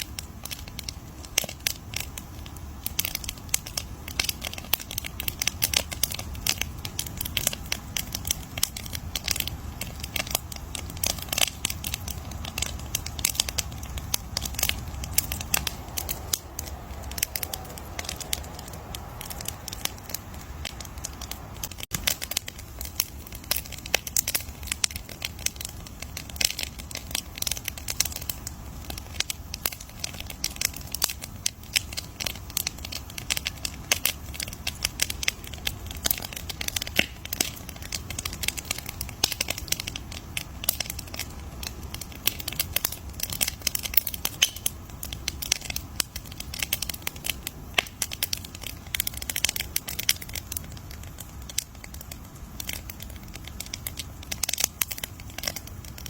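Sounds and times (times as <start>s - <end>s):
bonfire crackling: 0.0s - 56.0s
low rumble of flames: 0.0s - 56.0s.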